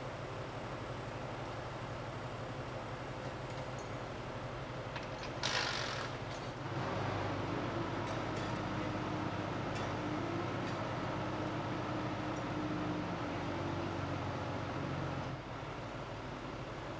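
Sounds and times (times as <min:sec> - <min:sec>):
construction machinery running: 0:02.6 - 0:16.9.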